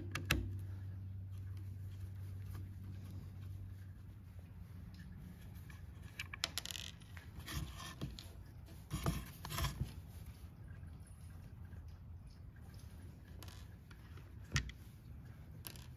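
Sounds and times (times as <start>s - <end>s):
faint low hum: 0.0s - 15.9s.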